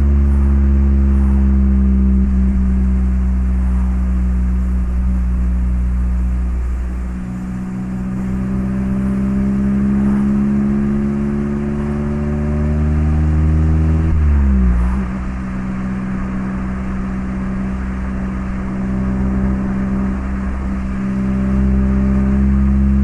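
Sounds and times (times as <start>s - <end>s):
car engine while driving: 0.0s - 23.0s.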